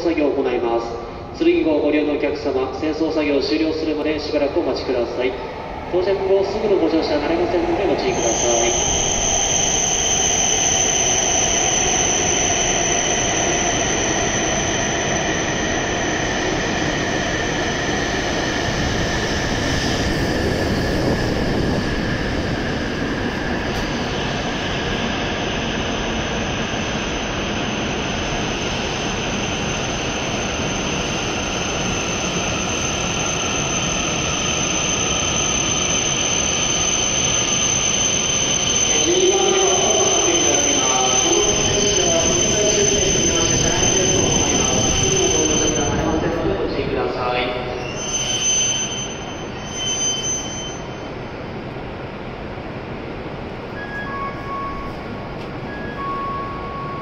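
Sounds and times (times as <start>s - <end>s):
train rumble: 0.0s - 38.1s, 38.8s - 48.0s
high-pitched train whine: 0.0s - 57.0s.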